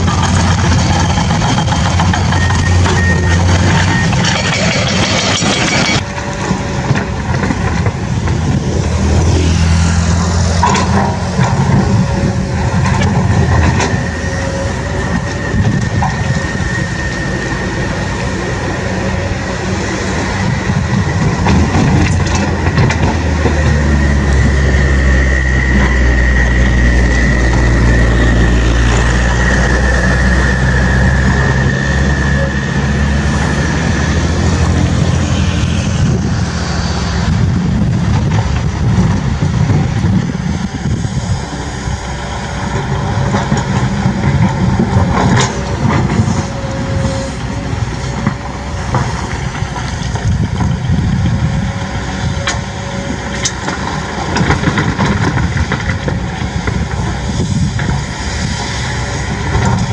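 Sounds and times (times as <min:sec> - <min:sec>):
heavy vehicle engine rumbling: 0:00.0 - 0:59.9
steady high whine: 0:00.0 - 0:59.9.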